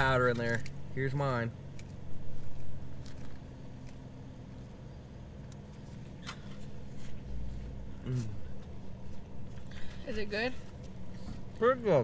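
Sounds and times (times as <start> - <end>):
low hum in car cabin: 0.0 - 12.0.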